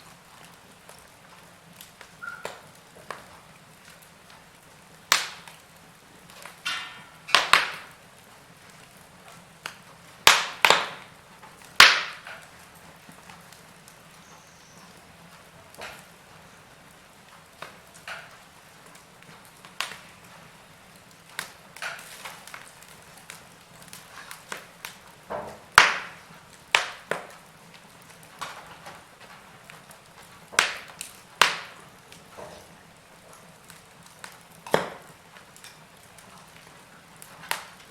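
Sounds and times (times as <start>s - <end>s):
faint steady hiss: 0.0s - 37.9s
fire crackling and popping: 0.0s - 37.9s.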